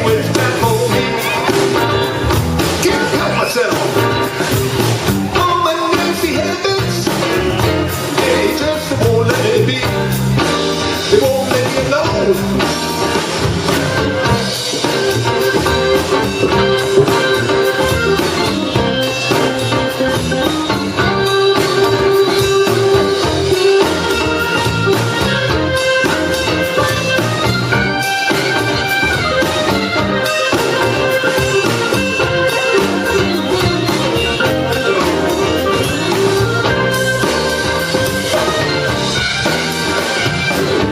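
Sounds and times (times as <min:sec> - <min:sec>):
blues band playing: 0:00.0 - 0:40.9.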